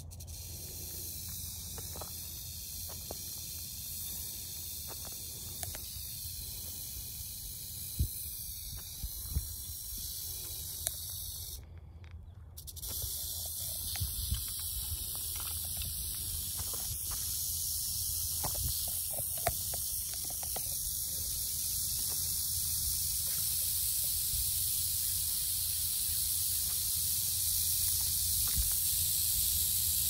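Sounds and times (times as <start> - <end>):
rattlesnake rattling: 0.0 - 11.7, 12.5 - 30.0.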